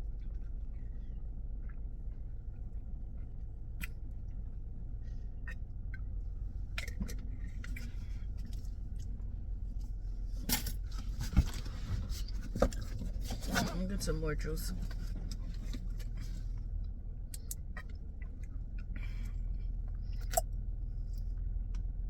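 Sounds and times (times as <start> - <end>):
car rumble from inside cabin: 0.0 - 22.0.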